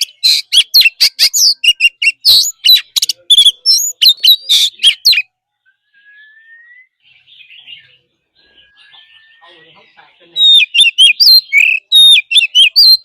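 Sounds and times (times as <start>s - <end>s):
bird singing whistled notes: 0.0s - 13.0s
distant bird calls: 0.0s - 13.0s.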